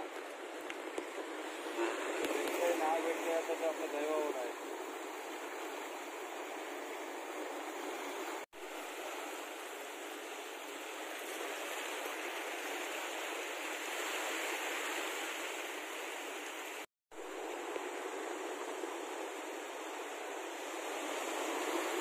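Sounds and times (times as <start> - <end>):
sea surf on rocky shore: 0.0 - 22.0.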